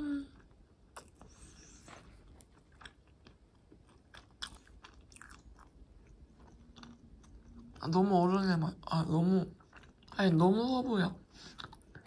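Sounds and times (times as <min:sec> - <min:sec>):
chewing bread: 0:00.3 - 0:12.0.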